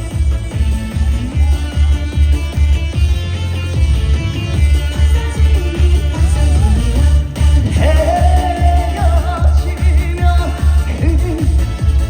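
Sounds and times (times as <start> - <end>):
bass drum beat: 0.0 - 12.0
live band music: 0.0 - 12.0.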